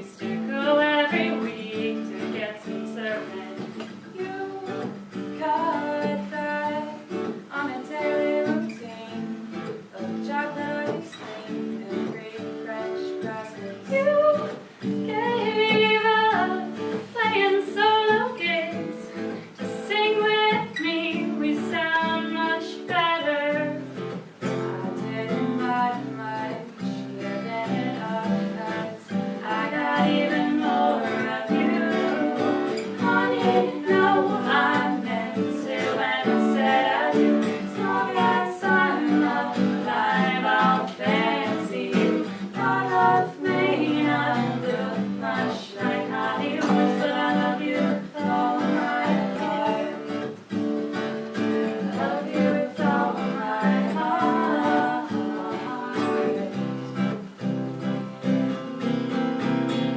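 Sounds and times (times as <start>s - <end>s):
women singing: 0.0s - 50.6s, 51.3s - 57.2s
strummed acoustic guitar: 0.0s - 59.9s.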